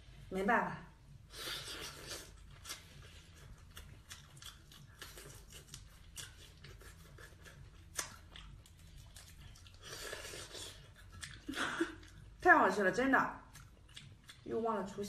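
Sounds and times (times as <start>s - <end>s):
chewing: 1.5s - 12.4s, 13.4s - 14.6s.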